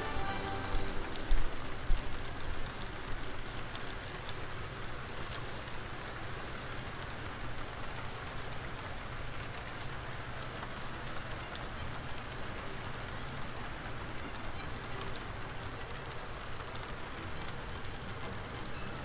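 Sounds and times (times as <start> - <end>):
model train wheels rumbling: 0.0 - 19.0.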